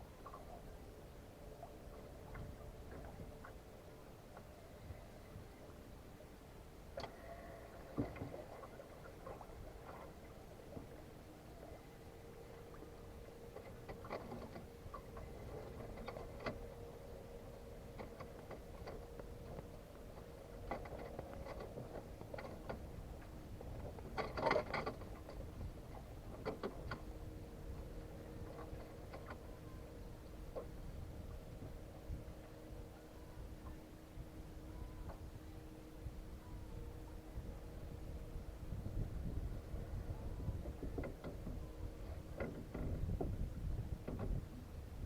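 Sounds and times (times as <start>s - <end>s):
faint steady hum: 0.0s - 45.0s
water against a boat hull: 0.0s - 45.0s.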